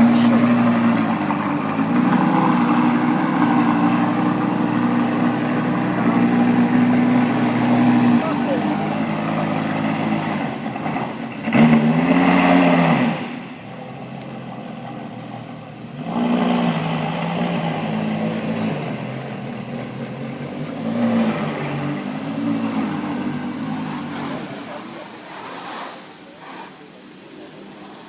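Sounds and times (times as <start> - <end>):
car engine revving: 0.0 - 25.2.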